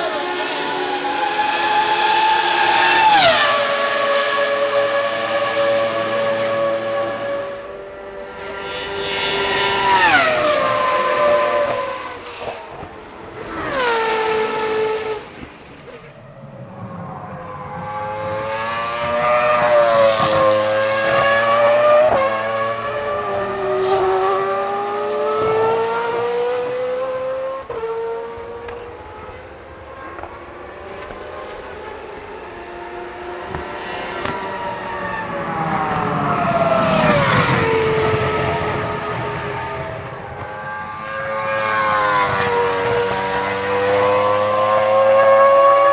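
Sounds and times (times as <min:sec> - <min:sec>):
engines shifting through gears: 0:00.0 - 0:45.9
racing cars passing at high revs: 0:00.0 - 0:45.9.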